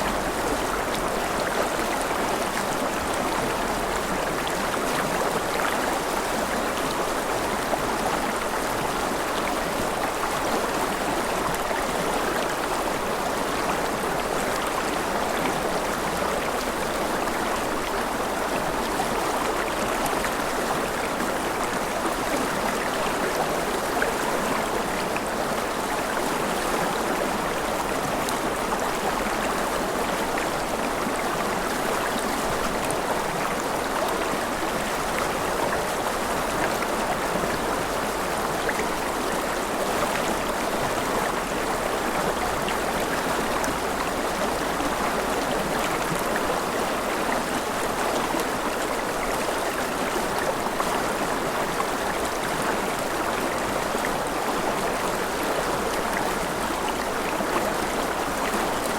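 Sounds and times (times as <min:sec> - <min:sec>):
river flowing over stones: 0:00.0 - 0:58.9.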